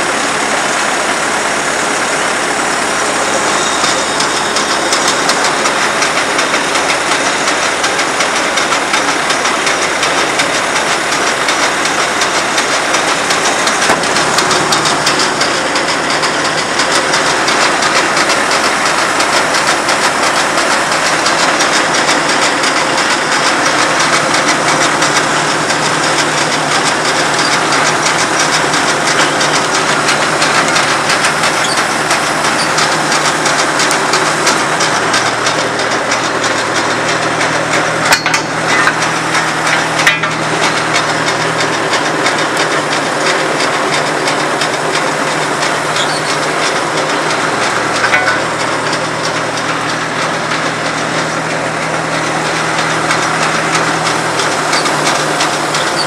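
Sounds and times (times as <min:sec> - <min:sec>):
drill rig engine and clatter: 0:00.0 - 0:56.0
sharp metallic knocks: 0:03.6 - 0:56.0.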